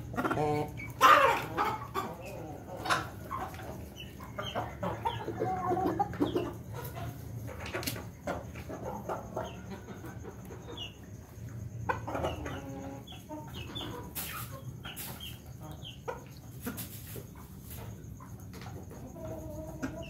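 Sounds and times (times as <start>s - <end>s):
roosters clucking: 0.0s - 20.0s.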